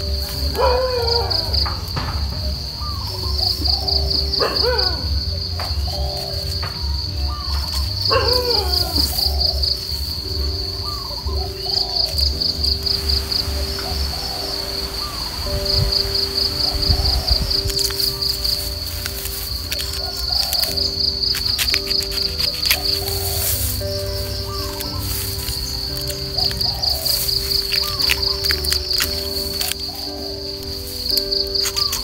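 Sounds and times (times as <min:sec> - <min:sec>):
bird calls: 0:00.0 - 0:32.0
insects trilling: 0:00.0 - 0:32.0.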